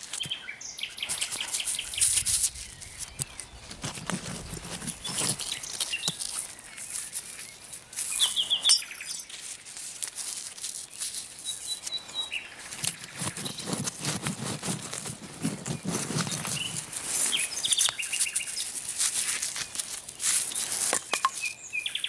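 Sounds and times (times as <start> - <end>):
hands scraping dry soil: 0.0 - 22.0
songbirds singing: 0.0 - 22.0.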